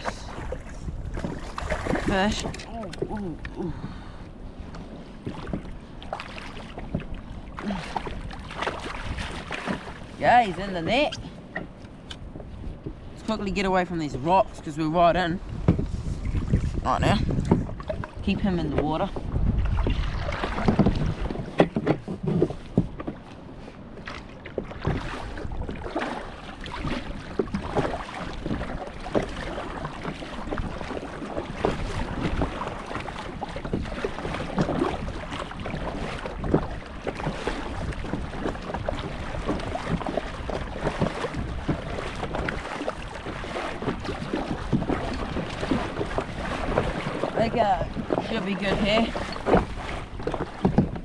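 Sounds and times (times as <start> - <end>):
paddle splashing in water: 0.0 - 13.2, 15.5 - 51.0
water sloshing along hull: 0.0 - 51.0
wind on microphone: 0.0 - 51.0.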